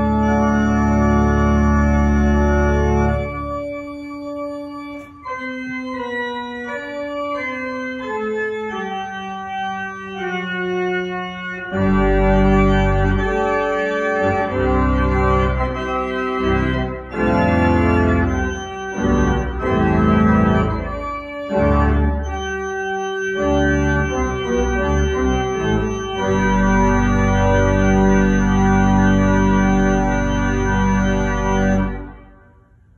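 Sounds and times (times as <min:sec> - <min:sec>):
deep organ pedal bass: 0:00.0 - 0:32.3
pipe organ playing: 0:00.0 - 0:32.5.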